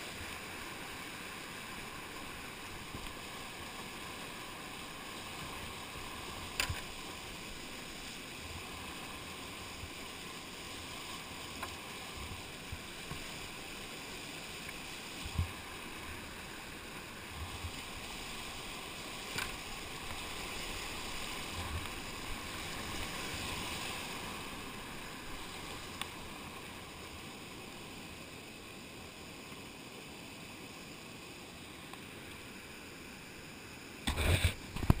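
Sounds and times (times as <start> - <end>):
water splashes: 0.0 - 29.9
whitewater rapids rushing: 0.0 - 34.9.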